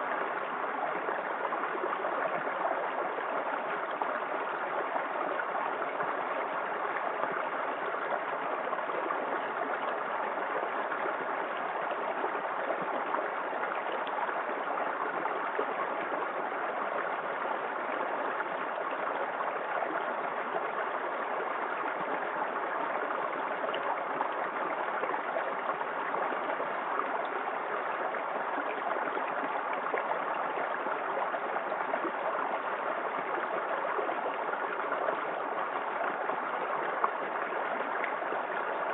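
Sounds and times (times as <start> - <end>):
small waterfall pouring and splashing: 0.0 - 38.9.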